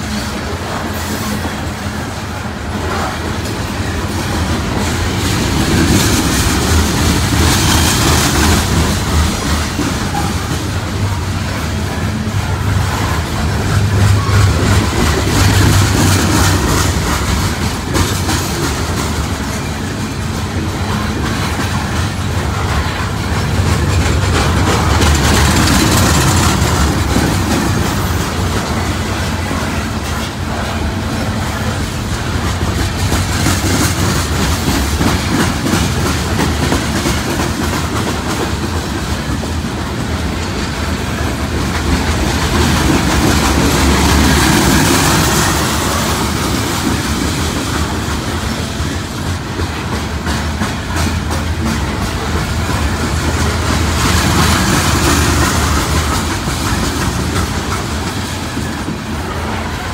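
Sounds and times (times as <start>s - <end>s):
train wheels rumbling on rails: 0.0s - 59.9s
wheels clacking over rail joints: 0.0s - 59.9s.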